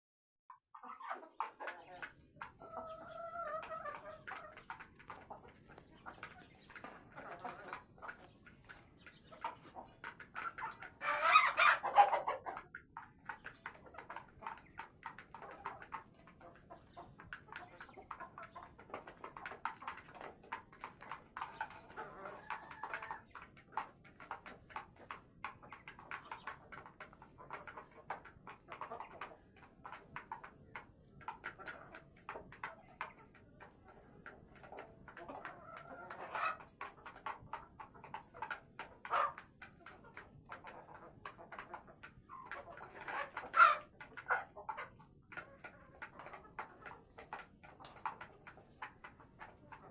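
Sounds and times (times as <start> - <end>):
hens clucking: 0.7 - 49.9.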